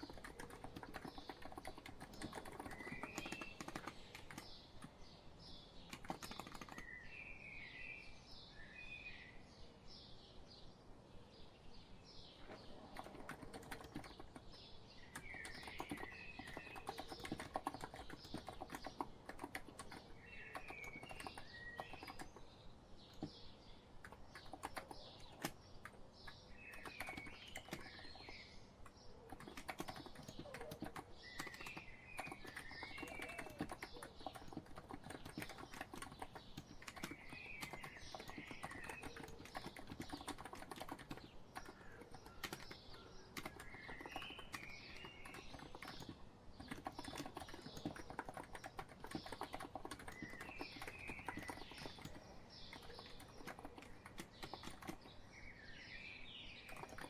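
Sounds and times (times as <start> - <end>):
keyboard typing: 0.0 - 6.9, 12.4 - 23.4, 24.0 - 55.3, 56.7 - 57.0
bird chirping: 0.0 - 10.1, 11.4 - 57.0.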